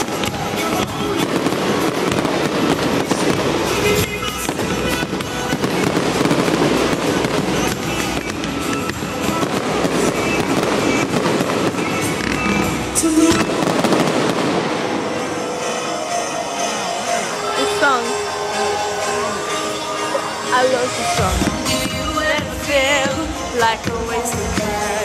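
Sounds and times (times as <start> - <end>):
fireworks bursting and crackling: 0.0 - 25.0
music over loudspeakers: 0.0 - 25.0.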